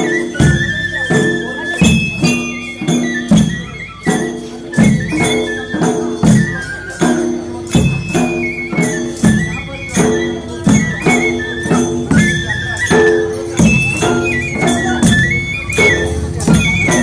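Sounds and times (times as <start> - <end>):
percussion: 0.0 - 17.0
heavy drum beat: 1.4 - 17.0.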